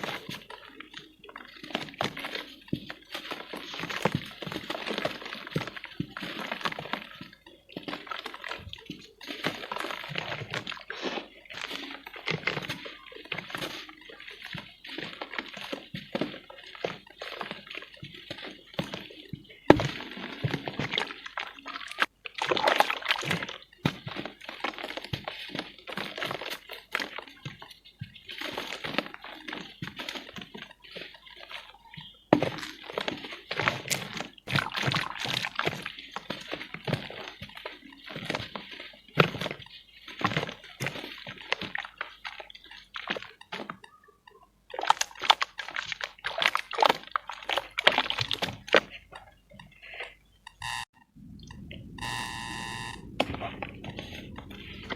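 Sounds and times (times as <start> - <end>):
sloshing and splashing: 0.0 - 43.9, 44.7 - 54.9
wet cement crunching: 0.0 - 54.9.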